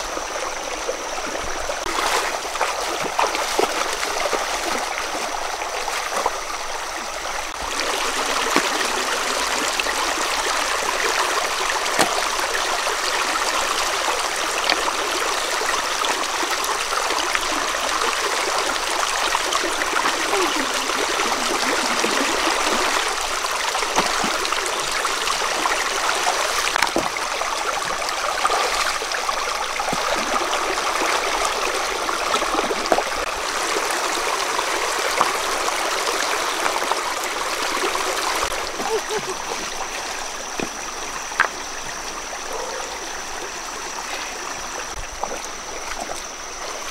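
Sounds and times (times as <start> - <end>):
stream rushing over stones: 0.0 - 46.9
splashes from wading: 1.5 - 6.7, 7.5 - 33.8, 34.9 - 42.7.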